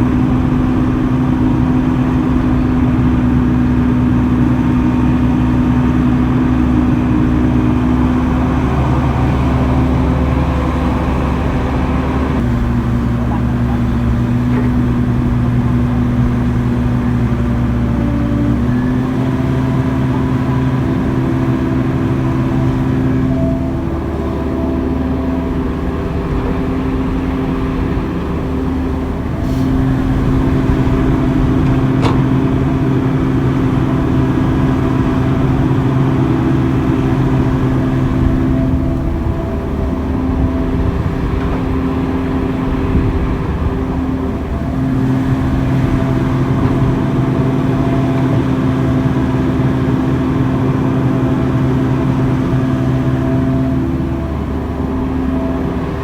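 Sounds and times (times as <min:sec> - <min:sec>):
heavy machinery diesel engine: 0:00.0 - 0:56.0.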